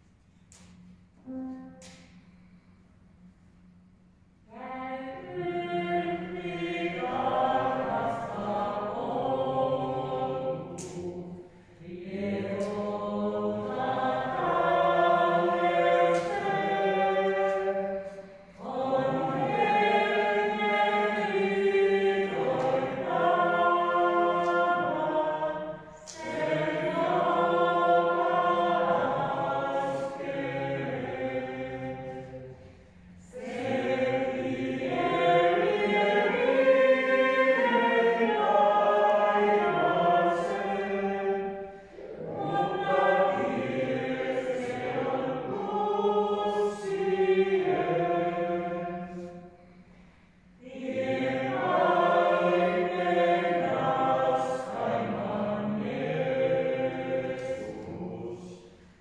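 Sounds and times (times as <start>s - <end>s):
group singing a hymn: 4.5s - 59.0s.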